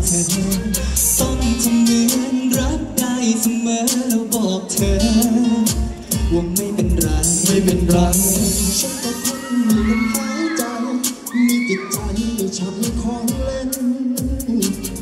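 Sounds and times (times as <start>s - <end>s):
person singing: 0.0s - 15.0s
steady drum beat: 0.0s - 15.0s.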